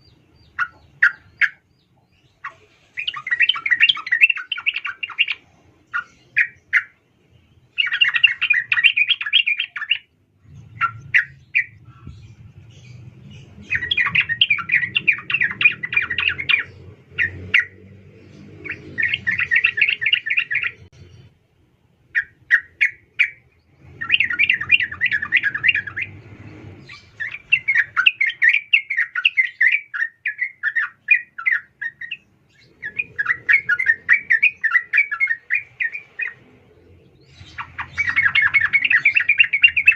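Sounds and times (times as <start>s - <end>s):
bulbul chattering calls: 0.0s - 7.0s, 7.7s - 20.9s, 22.2s - 26.2s, 26.8s - 39.9s.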